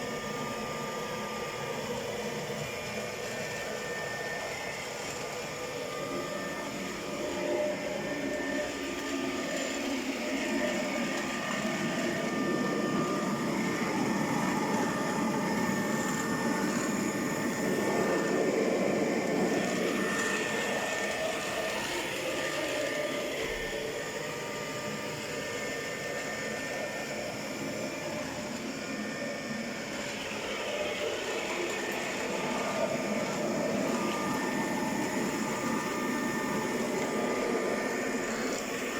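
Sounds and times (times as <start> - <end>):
robot vacuum running: 0.0 - 38.9.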